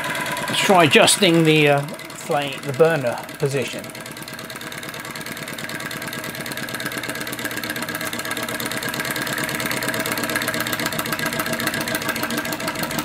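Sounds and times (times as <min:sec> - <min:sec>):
small engine running fast: 0:00.0 - 0:13.0.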